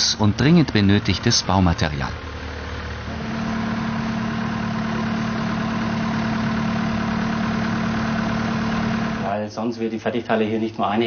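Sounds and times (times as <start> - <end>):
forklift engine running: 0.0 - 9.4.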